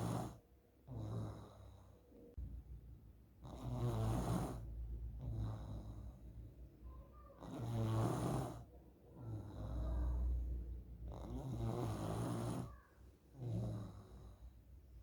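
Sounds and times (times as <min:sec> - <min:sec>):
child snoring: 0:00.0 - 0:02.0, 0:03.4 - 0:06.4, 0:07.1 - 0:14.6.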